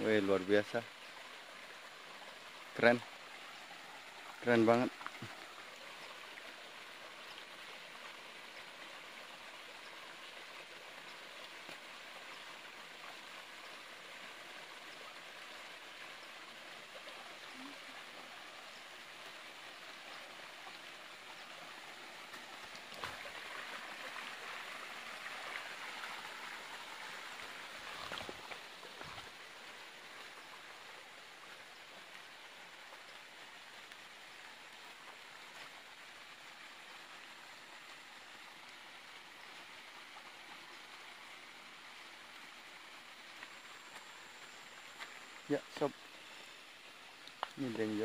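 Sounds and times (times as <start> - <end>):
stream water running: 0.0 - 48.0.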